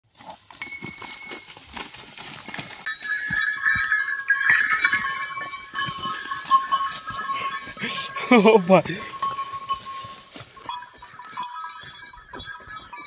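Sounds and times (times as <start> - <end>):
bulls butting and scuffling: 0.1 - 13.0
steady high ringing tones: 0.6 - 13.0.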